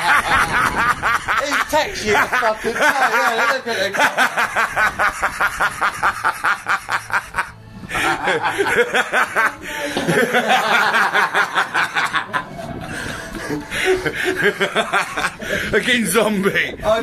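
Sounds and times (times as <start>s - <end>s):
man laughing: 0.0s - 15.8s.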